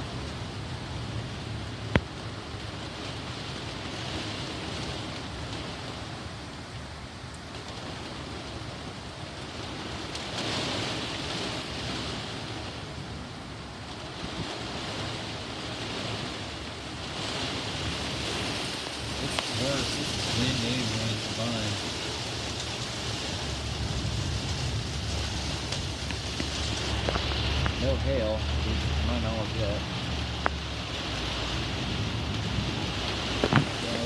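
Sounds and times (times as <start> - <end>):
heavy rain in strong wind: 0.0 - 34.0.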